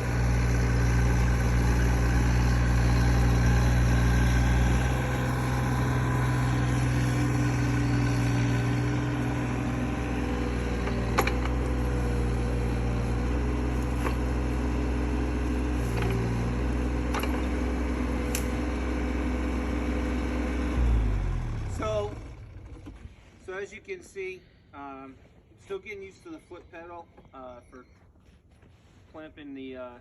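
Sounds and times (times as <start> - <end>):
excavator engine running: 0.0 - 24.2.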